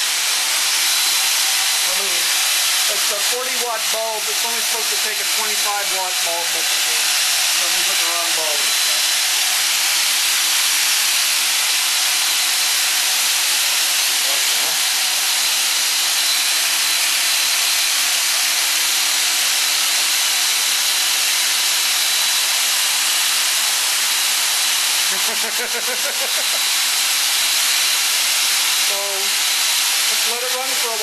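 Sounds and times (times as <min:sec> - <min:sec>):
electrical machinery hissing whir: 0:00.0 - 0:18.0, 0:20.7 - 0:31.0.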